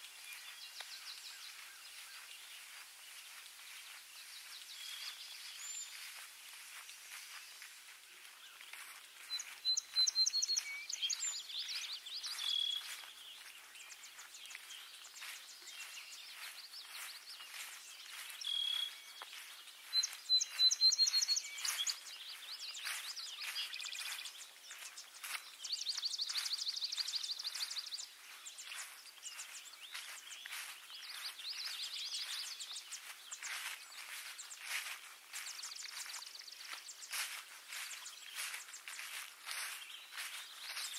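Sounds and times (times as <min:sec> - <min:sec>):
songbird song phrase: 0:00.0 - 0:40.9.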